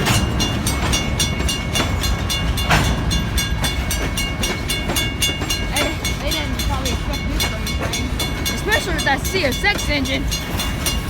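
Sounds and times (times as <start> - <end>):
train rumble: 0.0 - 11.0
train wheel clicks: 0.0 - 11.0.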